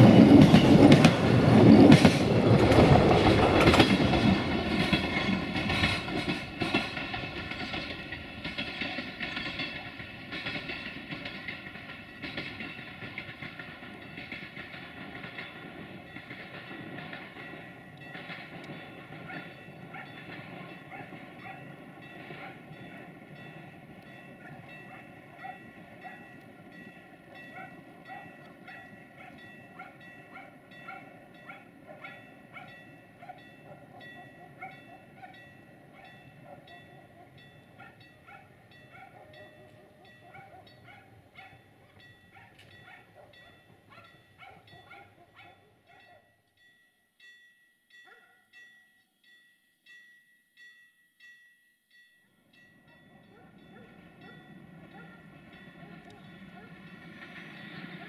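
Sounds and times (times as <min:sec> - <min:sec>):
train rumble: 0:00.0 - 0:45.7, 0:52.6 - 0:58.0.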